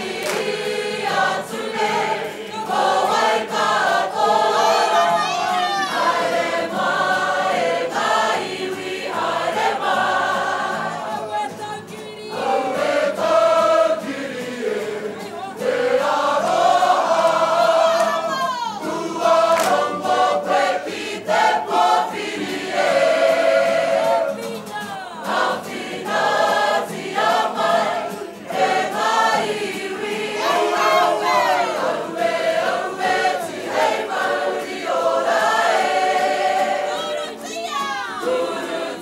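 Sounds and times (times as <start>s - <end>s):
group singing in unison: 0.0s - 39.0s.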